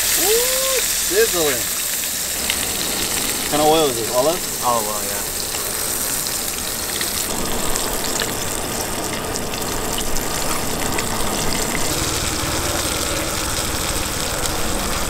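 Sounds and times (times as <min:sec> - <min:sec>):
fish sizzling in frying pan: 0:00.0 - 0:15.0.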